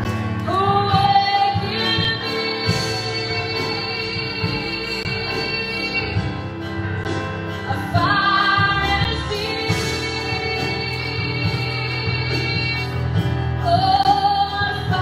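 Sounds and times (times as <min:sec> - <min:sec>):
live band with keyboard and guitars: 0:00.0 - 0:15.0
woman singing: 0:00.0 - 0:15.0.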